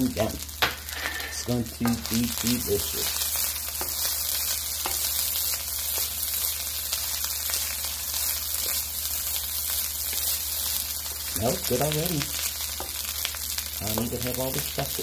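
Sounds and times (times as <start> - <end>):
rice sizzling in a wok: 0.0 - 15.0.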